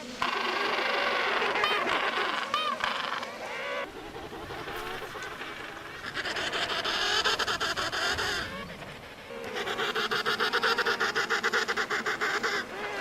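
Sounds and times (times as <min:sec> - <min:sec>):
penguin calling: 0:00.2 - 0:13.0.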